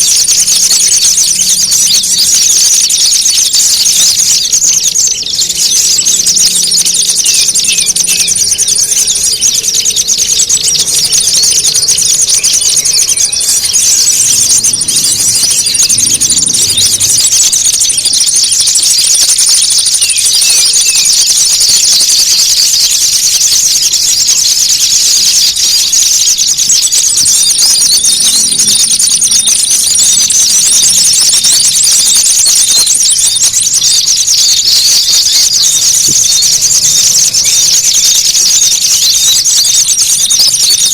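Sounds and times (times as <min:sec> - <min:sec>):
songbirds chattering: 0:00.0 - 0:40.9
thin whistle-like tone: 0:01.4 - 0:21.9, 0:23.6 - 0:40.8.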